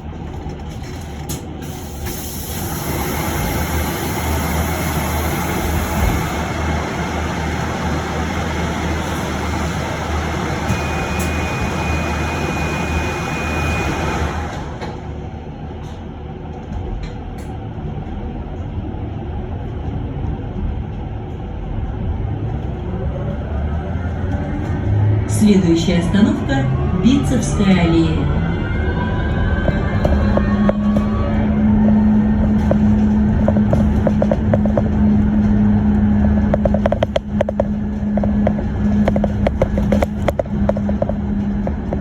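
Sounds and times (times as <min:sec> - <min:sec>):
bus low running noise: 0:00.0 - 0:42.0.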